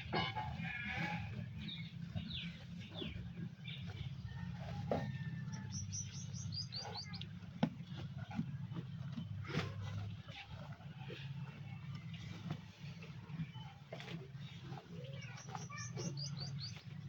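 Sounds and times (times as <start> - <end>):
small birds chirping: 0.0 - 10.5, 11.2 - 17.0.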